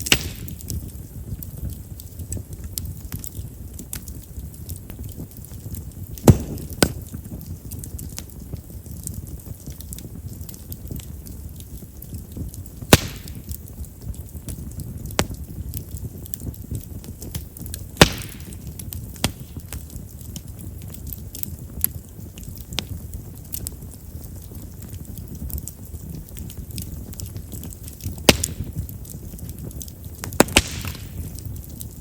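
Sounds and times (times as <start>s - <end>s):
campfire flame rumbling: 0.0s - 32.0s
fire crackling pops: 0.0s - 32.0s.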